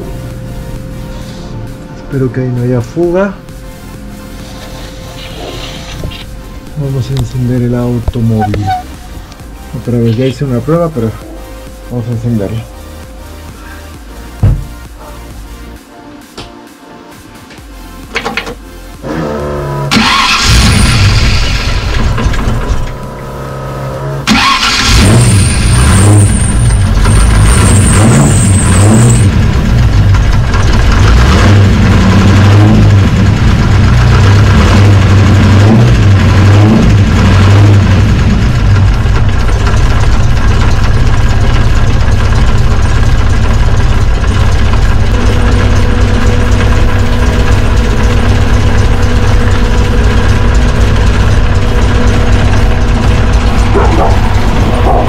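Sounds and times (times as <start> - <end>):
car engine idling: 0.0 - 15.8, 17.6 - 55.0.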